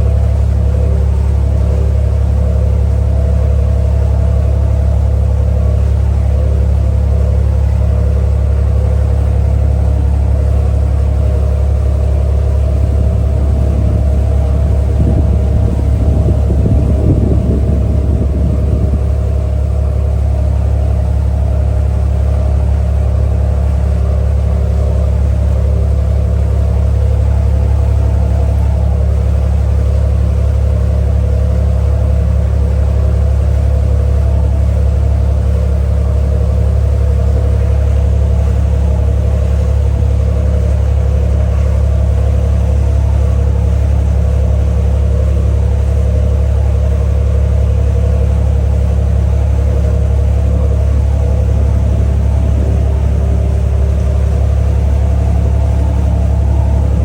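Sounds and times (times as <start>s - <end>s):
ferry engine humming: 0.0s - 57.0s.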